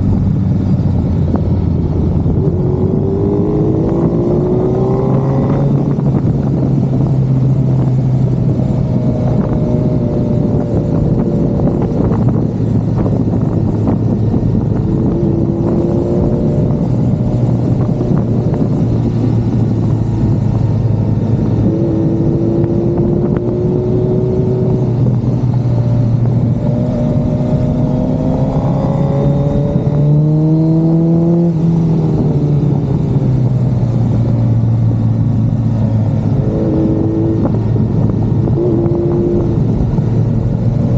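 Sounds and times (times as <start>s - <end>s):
wind rushing: 0.0s - 33.7s, 34.5s - 40.9s
motorcycle engine at road speed: 0.0s - 40.9s.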